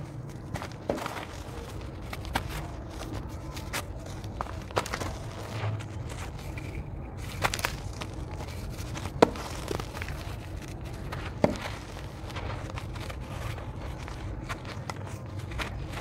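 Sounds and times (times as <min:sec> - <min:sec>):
dirt crumbling between fingers: 0:00.0 - 0:16.0.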